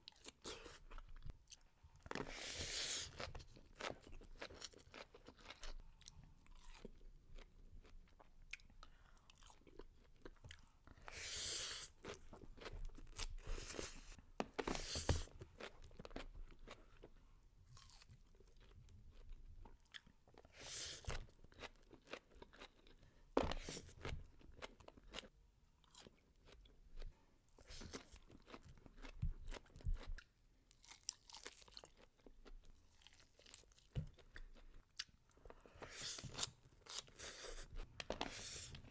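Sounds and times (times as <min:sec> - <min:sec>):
person chewing and crunching: 0:00.0 - 0:11.2, 0:11.8 - 0:17.2, 0:17.8 - 0:26.8, 0:27.6 - 0:38.9.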